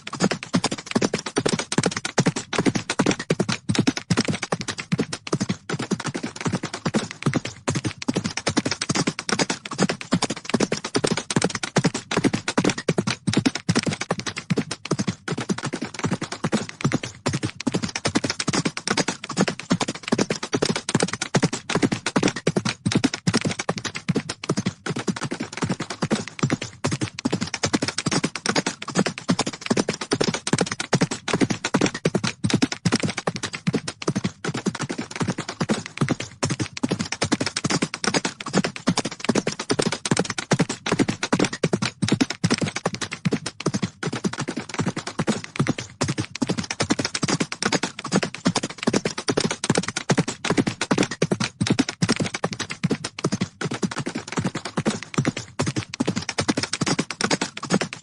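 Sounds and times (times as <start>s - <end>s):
galloping horse hooves: 0.0s - 58.0s.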